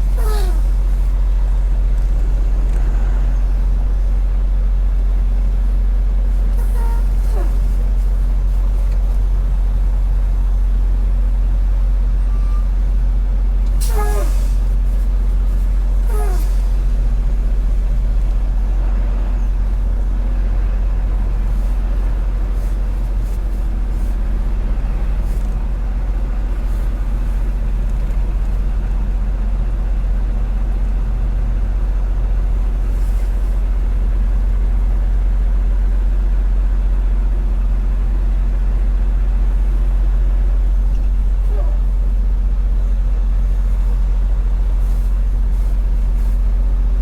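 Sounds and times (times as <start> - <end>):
diesel truck engine droning: 0.0 - 47.0.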